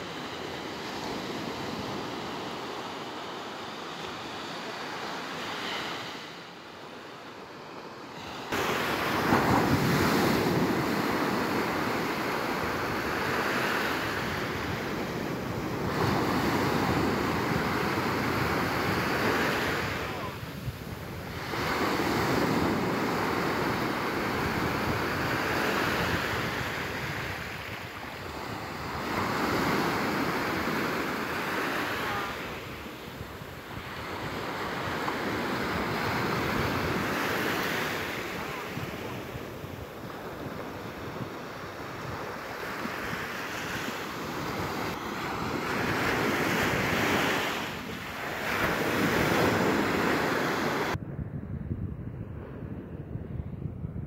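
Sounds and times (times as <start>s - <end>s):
waves breaking on beach: 0.0s - 51.0s.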